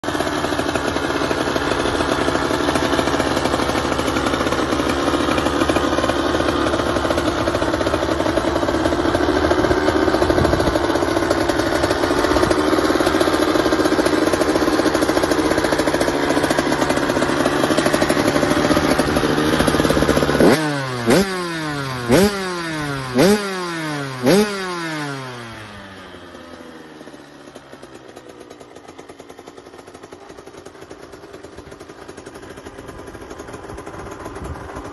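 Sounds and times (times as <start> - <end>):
two-stroke motorbike engine revving: 0.0 - 34.9.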